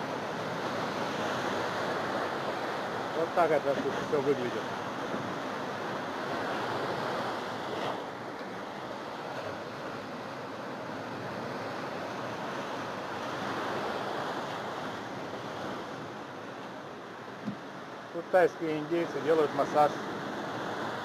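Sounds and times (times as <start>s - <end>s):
surf washing up sand: 0.0s - 21.0s.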